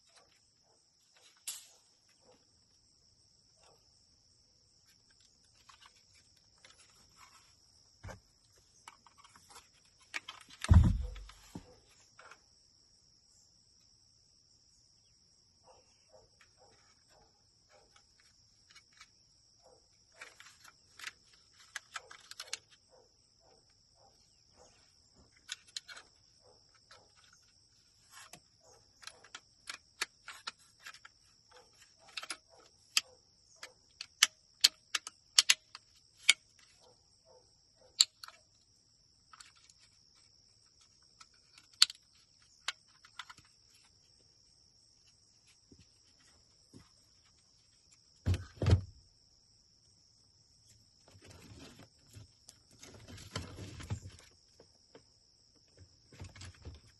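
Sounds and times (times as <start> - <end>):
insect trill: 0.0 - 56.9.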